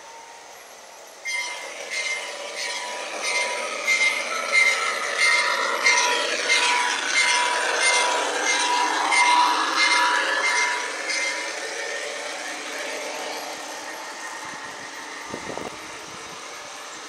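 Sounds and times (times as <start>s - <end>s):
model train wheels clicking: 0.6s - 17.0s.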